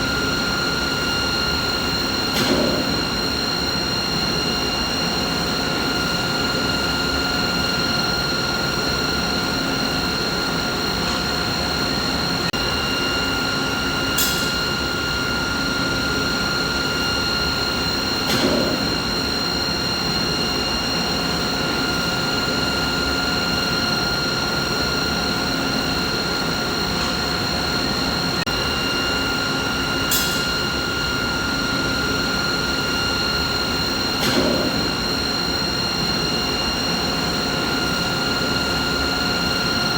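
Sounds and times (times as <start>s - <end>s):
machinery hum: 0.0s - 39.9s.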